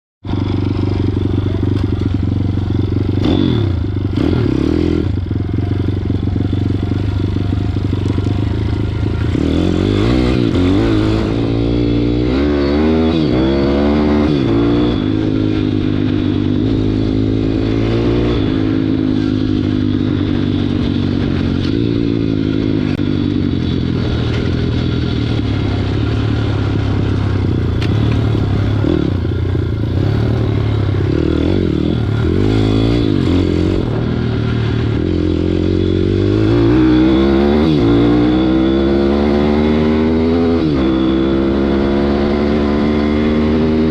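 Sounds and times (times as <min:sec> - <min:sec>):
motorbike engine running: 0:00.2 - 0:43.9.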